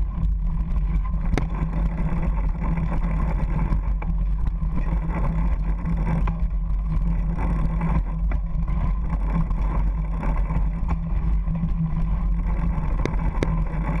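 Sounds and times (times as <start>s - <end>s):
bike rattling over bumps: 0.0s - 14.0s.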